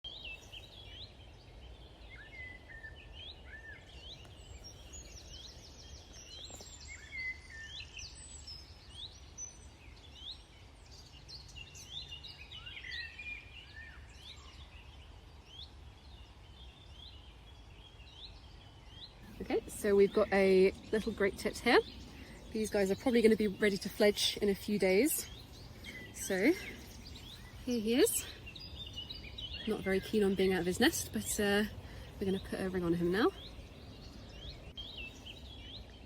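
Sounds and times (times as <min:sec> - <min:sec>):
songbirds chirping and singing: 0:00.0 - 0:36.0.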